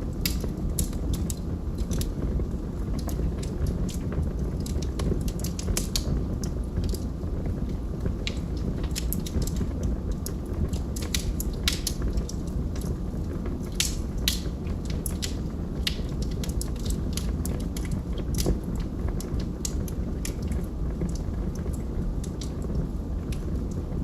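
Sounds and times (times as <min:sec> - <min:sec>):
log fire crackling: 0:00.0 - 0:24.0.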